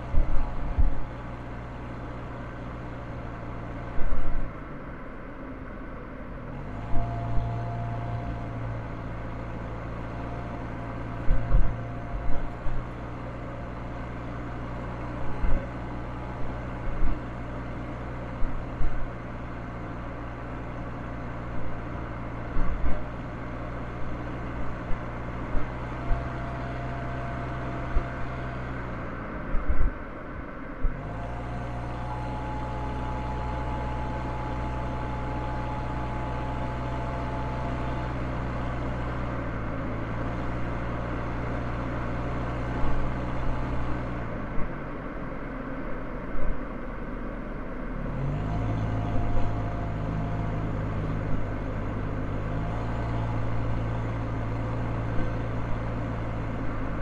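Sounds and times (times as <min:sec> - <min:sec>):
car engine hum: 0:00.0 - 0:57.0
road noise: 0:00.0 - 0:57.0.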